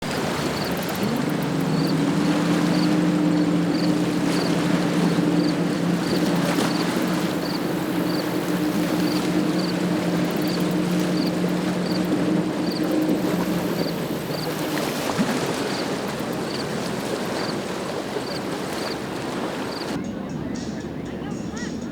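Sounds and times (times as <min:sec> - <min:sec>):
boat engine humming: 0:00.0 - 0:20.0
water rushing: 0:00.0 - 0:20.0
wind: 0:00.0 - 0:21.9.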